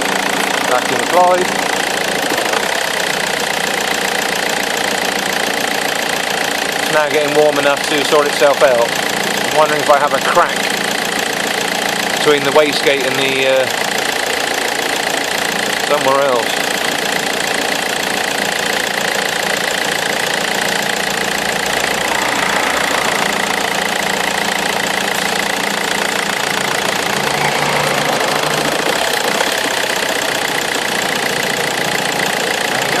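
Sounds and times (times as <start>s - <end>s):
diesel engine idling roughly: 0.0s - 33.0s.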